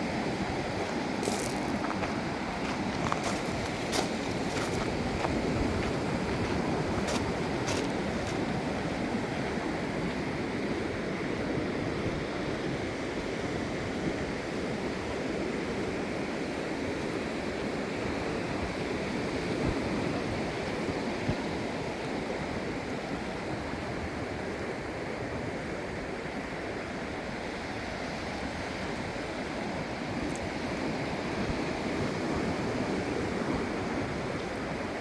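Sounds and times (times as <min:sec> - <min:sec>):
ocean waves breaking: 0:00.0 - 0:35.0.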